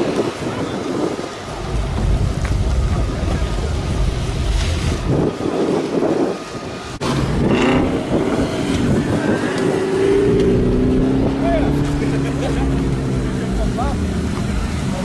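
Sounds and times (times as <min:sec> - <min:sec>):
car engines rumbling: 0:00.0 - 0:15.0
wind buffeting microphone: 0:00.0 - 0:15.0.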